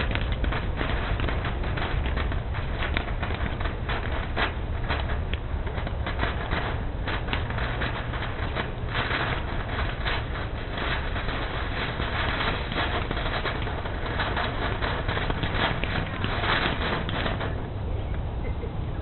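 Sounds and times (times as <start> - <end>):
fireworks crackling: 0.0 - 18.6
low rumble: 0.0 - 19.0.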